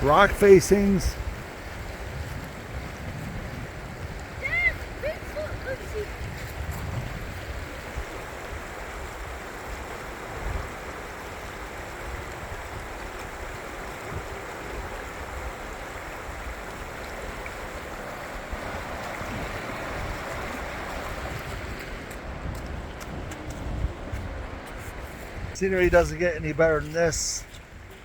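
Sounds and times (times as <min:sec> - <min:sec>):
river rushing: 0:00.0 - 0:28.0
wind buffeting on microphone: 0:00.0 - 0:28.0.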